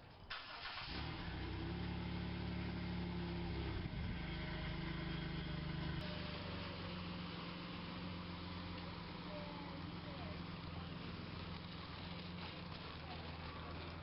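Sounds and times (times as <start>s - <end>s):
car engine starting and running: 0.3s - 14.0s.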